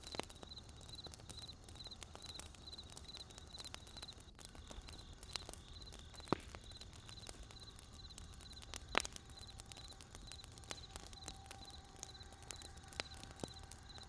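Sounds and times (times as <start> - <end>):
burning wood crackling: 0.0 - 14.0
loud pops from fire: 0.0 - 14.0.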